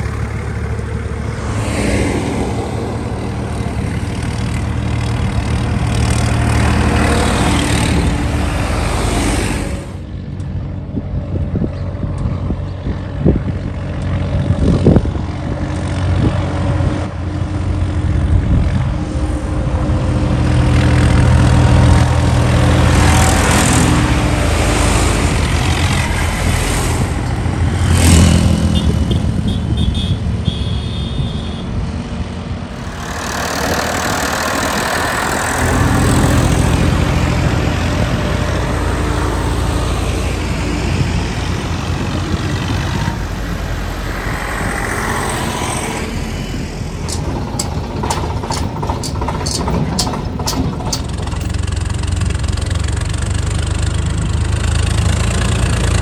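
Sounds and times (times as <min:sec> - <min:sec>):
tractor diesel engine under load: 0:00.0 - 0:30.6, 0:31.2 - 0:56.0.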